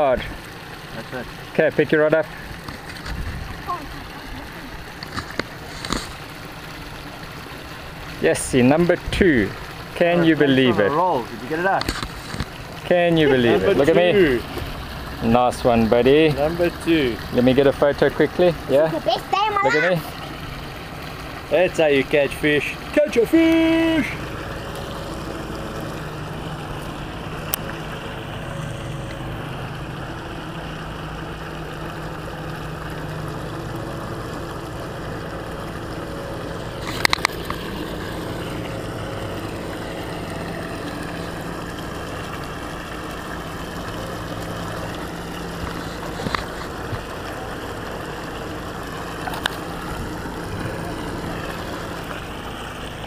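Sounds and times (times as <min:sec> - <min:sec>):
outdoor background noise: 0:00.0 - 0:53.0.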